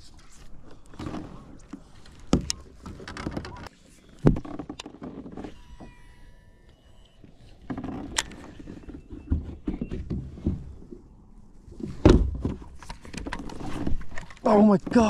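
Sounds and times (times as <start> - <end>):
knocks and rustling of fishing gear: 0.1 - 5.9, 7.2 - 11.1, 11.7 - 15.0.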